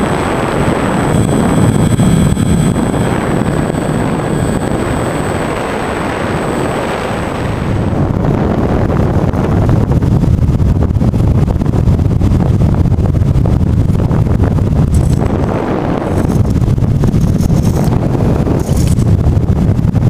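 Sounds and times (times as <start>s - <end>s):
high motor whine: 0.0s - 20.0s
wind rushing over microphone: 0.0s - 20.0s.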